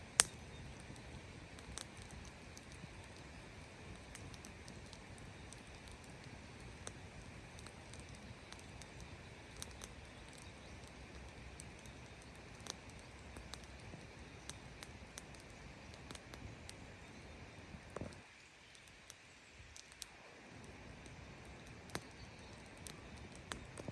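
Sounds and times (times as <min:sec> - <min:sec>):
campfire crackling and popping: 0:00.0 - 0:23.9
fire soft hiss: 0:00.0 - 0:23.9.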